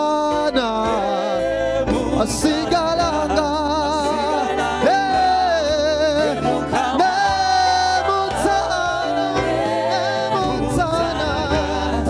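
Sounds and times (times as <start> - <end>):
instrumental backing music: 0.0 - 12.0.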